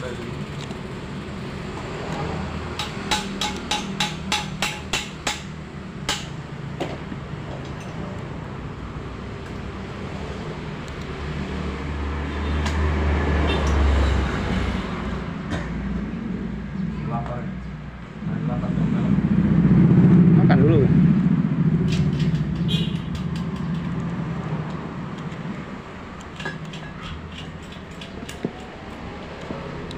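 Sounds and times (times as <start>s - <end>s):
vehicle low rumble: 5.5s - 29.9s.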